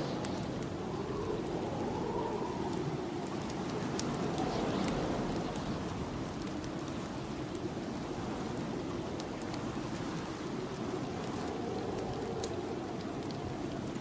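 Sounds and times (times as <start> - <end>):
snowstorm wind blowing: 0.0 - 14.0
wood fire crackling: 0.0 - 14.0.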